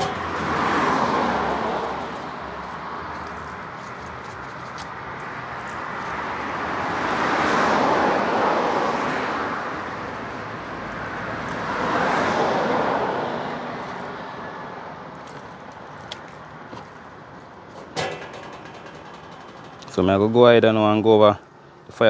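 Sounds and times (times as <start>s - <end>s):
vehicles passing by: 0.0s - 22.0s.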